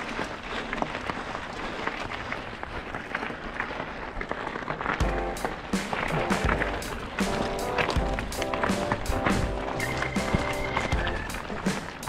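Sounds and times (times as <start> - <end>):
bike tyres crunching on gravel: 0.0 - 12.0
stones and bike rattling: 0.0 - 12.0.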